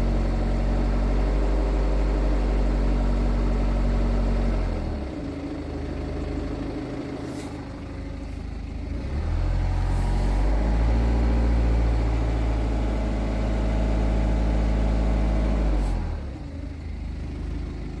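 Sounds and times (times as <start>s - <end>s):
diesel engine idling and revving: 0.0s - 18.0s.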